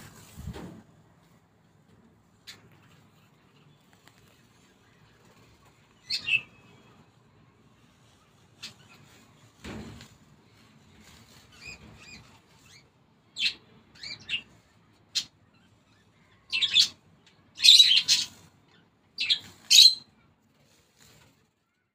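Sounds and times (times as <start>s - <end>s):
small birds chirping: 2.4s - 9.6s, 10.4s - 21.9s.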